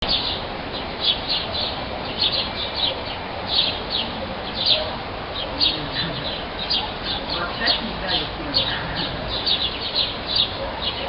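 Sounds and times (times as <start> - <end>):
background hiss: 0.0 - 11.0
songbirds chirping: 0.0 - 11.0.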